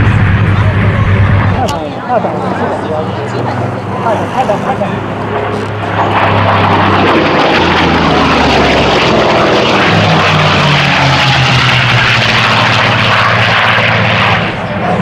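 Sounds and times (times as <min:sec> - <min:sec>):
propeller planes flying past: 0:00.0 - 0:15.0.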